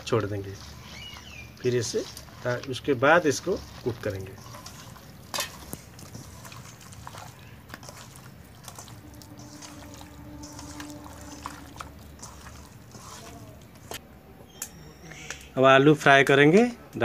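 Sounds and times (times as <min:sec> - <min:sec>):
wet squishing of meat: 0:00.0 - 0:14.0.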